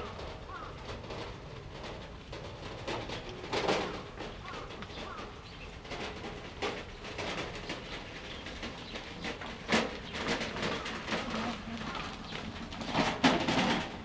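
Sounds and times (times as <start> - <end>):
birds calling: 0.0 - 13.9.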